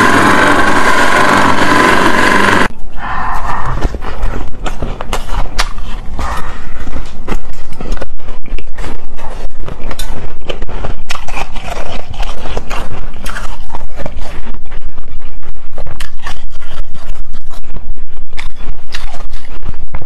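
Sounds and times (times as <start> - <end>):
crunching ice being chewed: 3.8 - 20.0.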